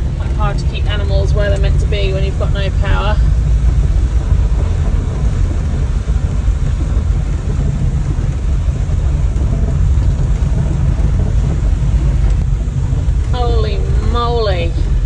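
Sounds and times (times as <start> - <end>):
farm vehicle engine rumble: 0.0 - 15.0.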